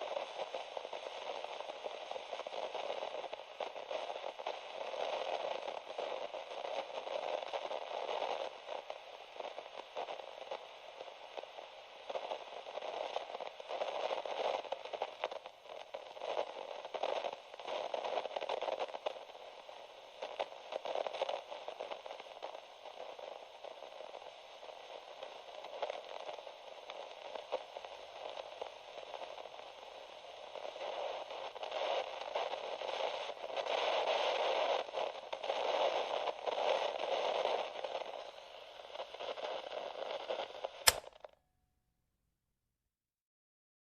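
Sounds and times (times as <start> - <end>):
radio static crackling hiss: 0.0 - 41.2.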